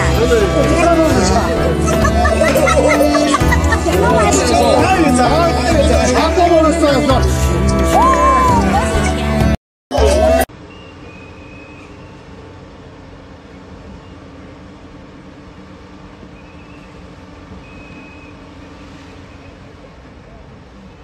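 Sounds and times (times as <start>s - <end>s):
construction machinery: 0.0s - 21.0s
street traffic: 0.0s - 21.0s.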